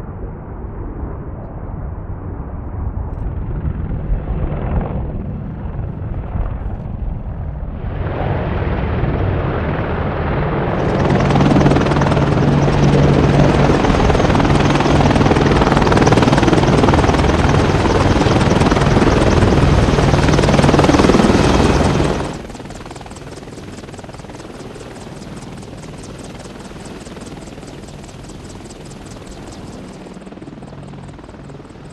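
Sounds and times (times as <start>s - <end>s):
helicopter rotor and engine noise: 0.0s - 31.9s.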